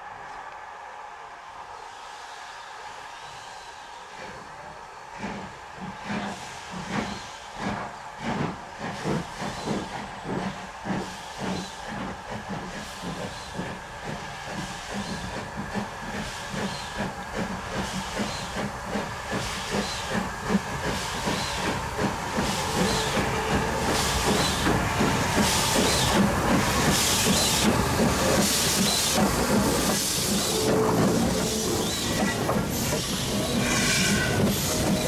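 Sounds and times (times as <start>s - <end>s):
steam hissing: 1.6s - 35.0s
steam locomotive chuffing: 1.8s - 35.0s.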